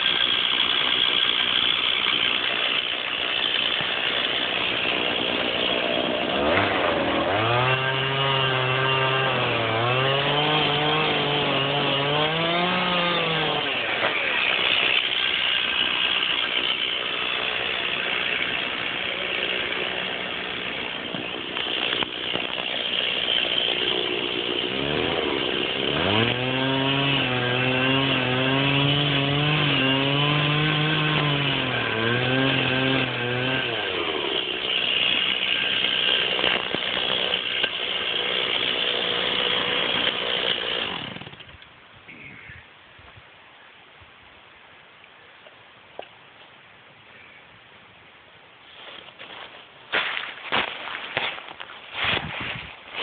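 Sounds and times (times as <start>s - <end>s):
chainsaw cutting wood: 0.0s - 41.8s, 48.8s - 53.0s.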